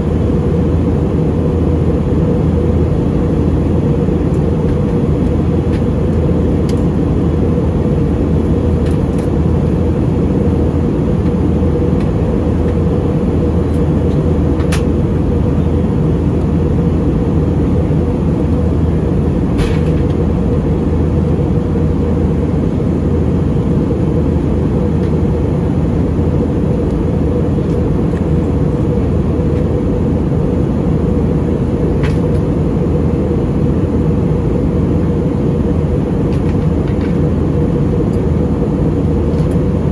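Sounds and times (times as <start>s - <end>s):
airplane cabin engine drone: 0.0s - 39.9s
steady hum: 0.0s - 39.9s.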